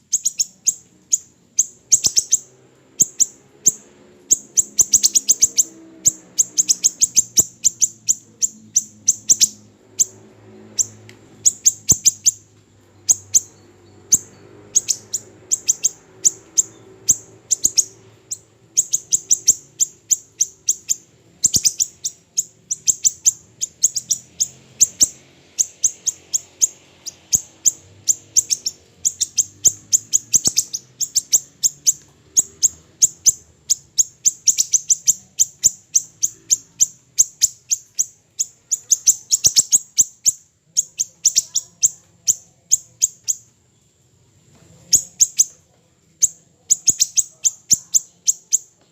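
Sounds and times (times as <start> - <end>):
bird chirping sharply: 0.0 - 43.6, 44.8 - 45.6, 46.2 - 48.8.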